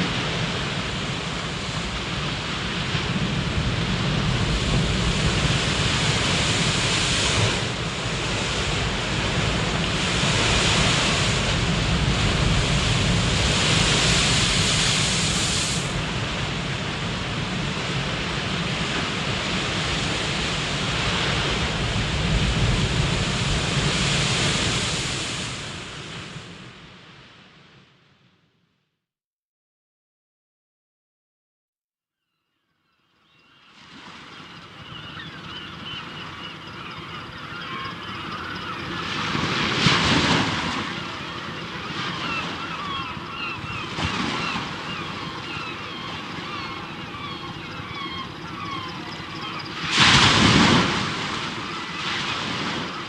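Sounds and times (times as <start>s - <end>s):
waves washing in: 0.0s - 27.9s, 33.7s - 53.0s.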